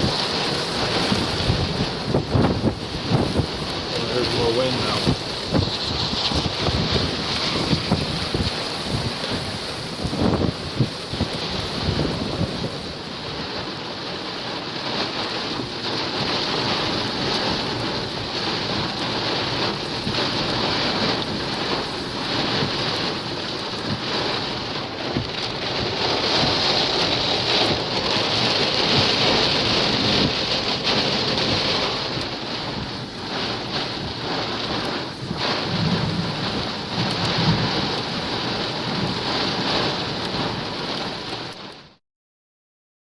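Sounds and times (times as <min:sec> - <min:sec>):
wind buffeting microphone: 0:00.0 - 0:41.6
strong wind gusting: 0:00.0 - 0:41.8.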